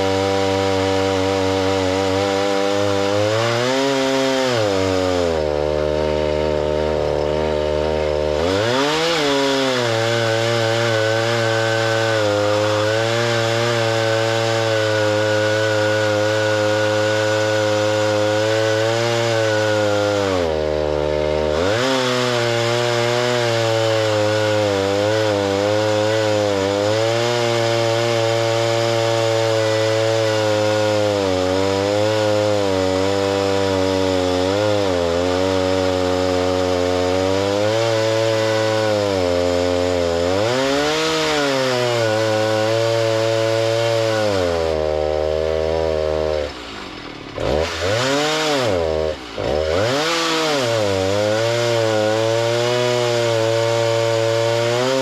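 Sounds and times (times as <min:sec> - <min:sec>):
gas-powered saw cutting wood: 0:00.0 - 0:55.0.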